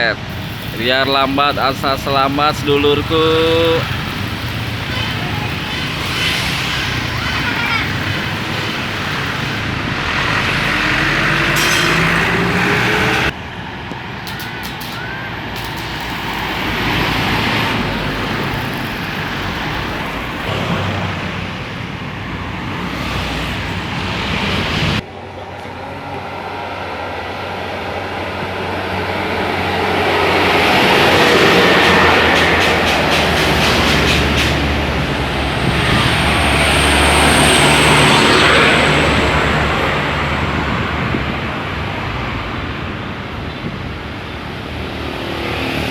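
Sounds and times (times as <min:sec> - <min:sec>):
buses passing: 0:00.0 - 0:45.9.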